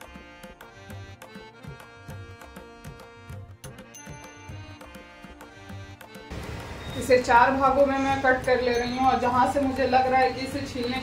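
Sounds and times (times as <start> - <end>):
sustained melodic notes: 0.0 - 11.0.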